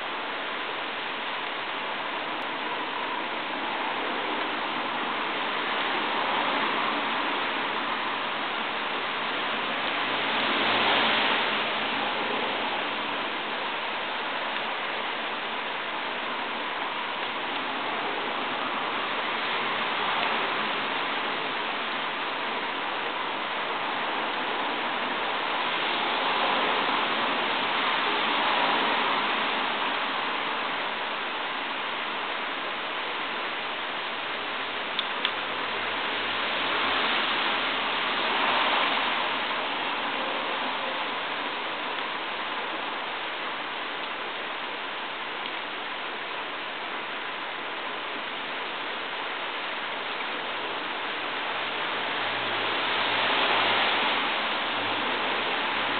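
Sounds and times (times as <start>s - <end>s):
rain falling on tiled patio: 0.0s - 55.9s.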